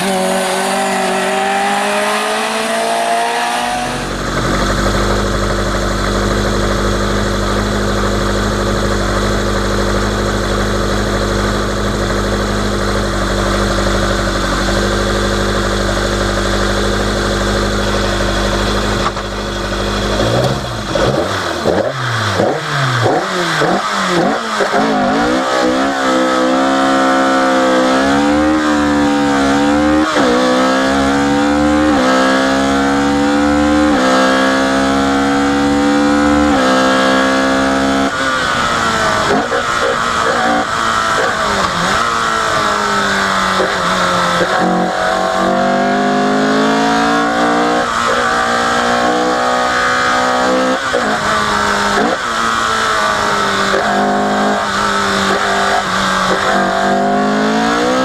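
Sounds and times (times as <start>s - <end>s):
car engine revving and accelerating: 0.0s - 58.0s.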